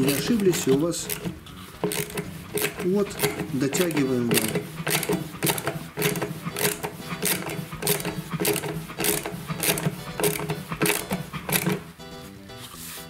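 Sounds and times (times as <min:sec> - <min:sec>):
ratchet wrench clicking: 0:00.0 - 0:11.8.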